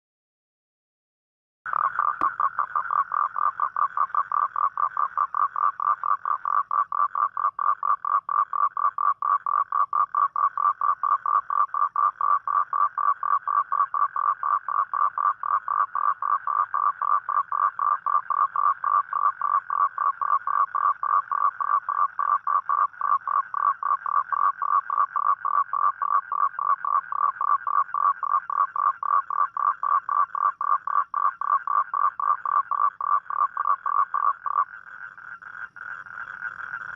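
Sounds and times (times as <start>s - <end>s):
toad calling with pulses: 1.7s - 36.9s.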